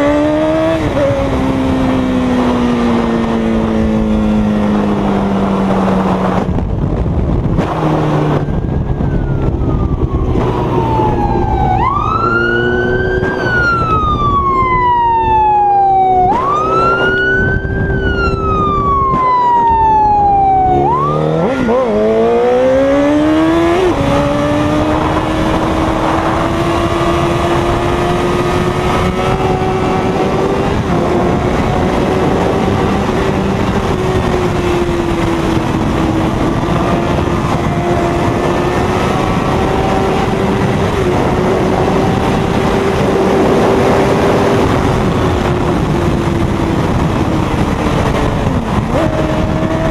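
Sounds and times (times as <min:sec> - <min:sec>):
motorcycle engine shifting gears: 0:00.0 - 0:49.9
police siren wailing: 0:07.6 - 0:49.9.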